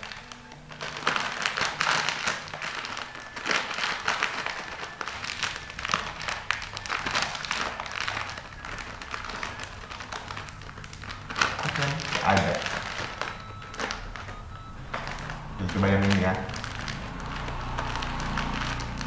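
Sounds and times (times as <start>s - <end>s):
foil snack bag crinkling: 0.0s - 19.0s.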